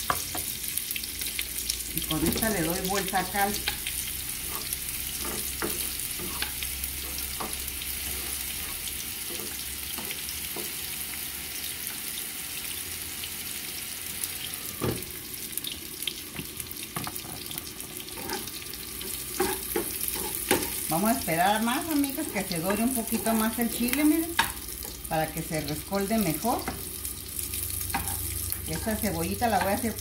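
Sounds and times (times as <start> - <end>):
oil sizzling in a skillet: 0.0 - 30.0.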